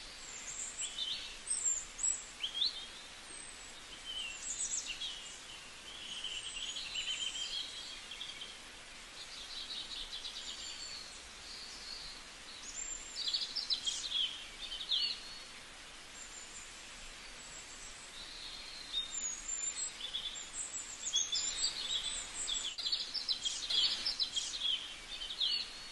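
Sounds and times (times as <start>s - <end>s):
faint steady hiss: 0.0s - 25.9s
small birds chirping: 0.0s - 25.9s.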